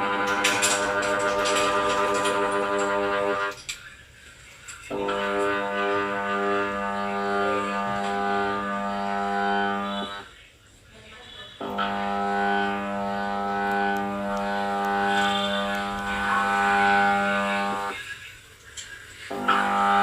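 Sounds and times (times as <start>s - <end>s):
washing machine motor humming: 0.0s - 3.7s, 4.9s - 10.3s, 11.6s - 18.3s, 19.0s - 20.0s.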